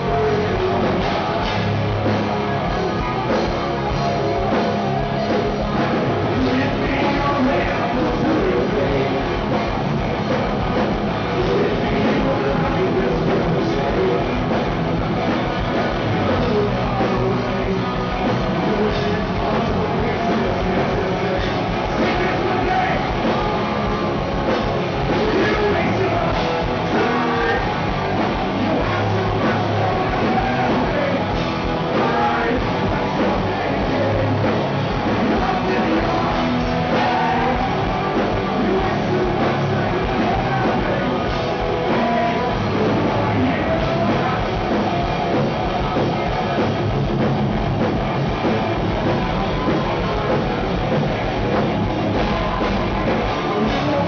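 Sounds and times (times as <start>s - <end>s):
live hard rock band: 0.0s - 54.0s.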